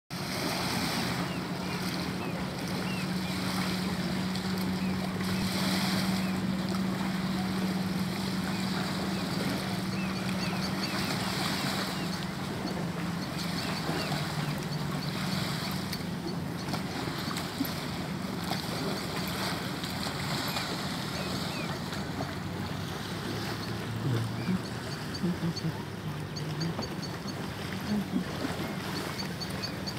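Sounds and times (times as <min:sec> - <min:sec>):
boat engine drone: 0:00.1 - 0:29.9
small waves lapping on rocks: 0:00.1 - 0:29.9.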